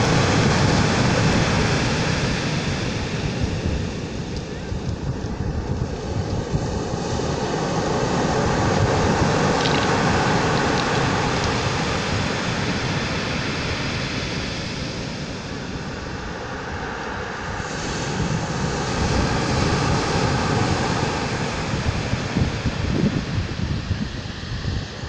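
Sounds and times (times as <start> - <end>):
faint steady drone: 0.0 - 25.0
surf washing over pebbles: 0.0 - 25.0.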